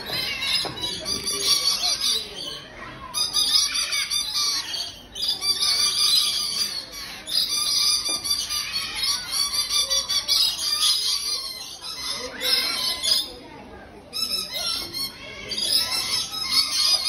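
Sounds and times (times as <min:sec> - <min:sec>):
lorikeets chattering and screeching: 0:00.0 - 0:17.0.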